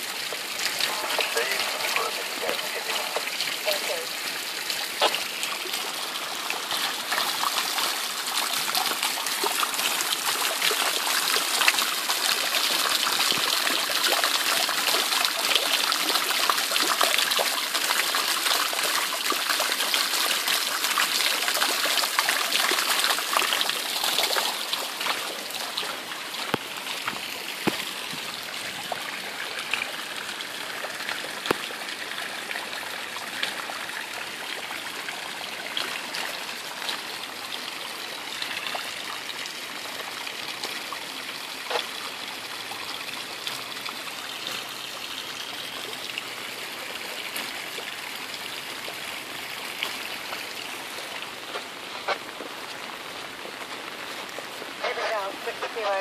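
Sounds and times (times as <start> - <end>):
heavy rain: 0.0 - 43.7, 44.3 - 56.0
water pouring from downpipe: 0.0 - 56.0.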